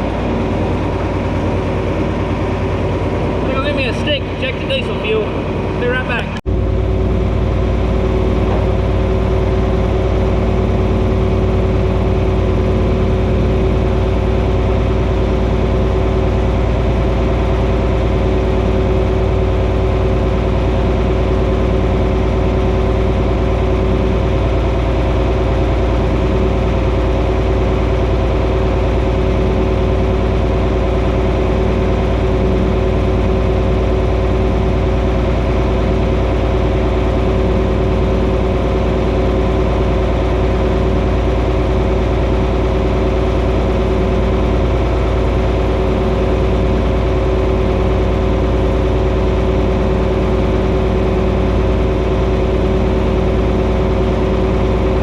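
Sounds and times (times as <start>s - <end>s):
diesel tractor engine idling: 0.0s - 55.0s.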